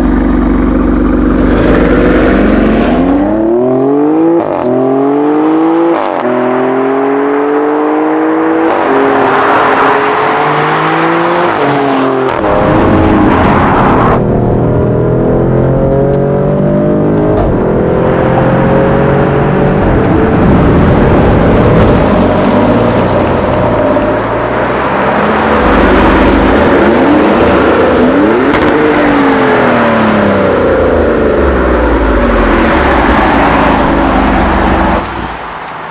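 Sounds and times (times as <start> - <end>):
loud car engine revving: 0.0 - 35.9.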